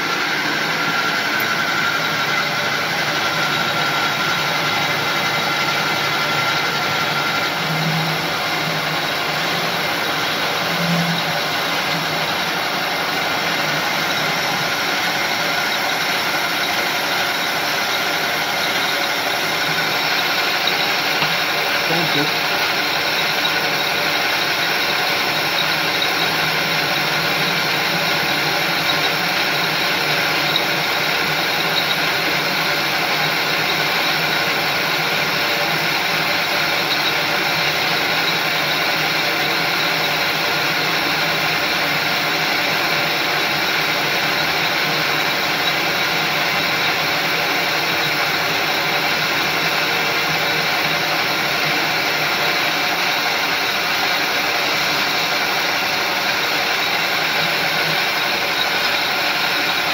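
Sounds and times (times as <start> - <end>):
gear whine: 0.0 - 59.9
metal lathe running: 0.0 - 59.9.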